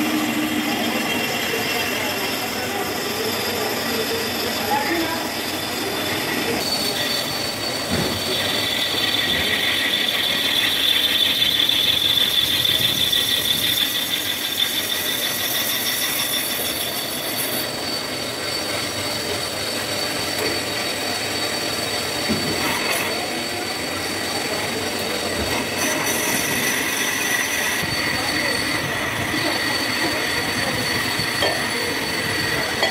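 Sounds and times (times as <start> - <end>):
cutting tool screeching: 0.0 - 32.9
metal lathe running: 0.0 - 32.9.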